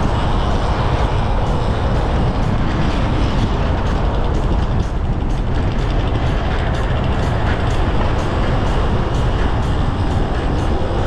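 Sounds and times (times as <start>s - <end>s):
road rumble: 0.0s - 11.0s
wind rush on microphone: 0.0s - 11.0s.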